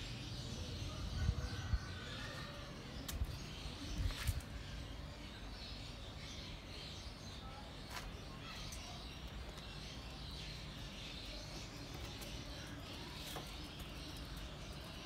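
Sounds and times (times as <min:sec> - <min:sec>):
faint distant voices: 0:00.0 - 0:15.0
soft bird chirps: 0:00.0 - 0:15.0.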